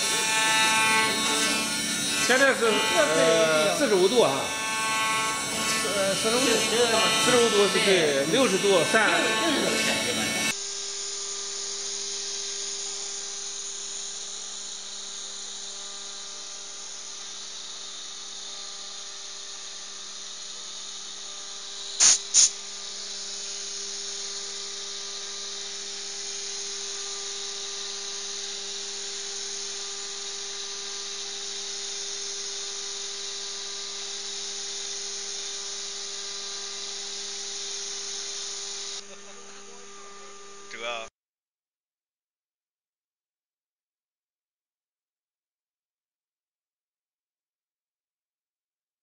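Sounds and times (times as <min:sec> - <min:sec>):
router spindle whining: 0:00.0 - 0:41.0.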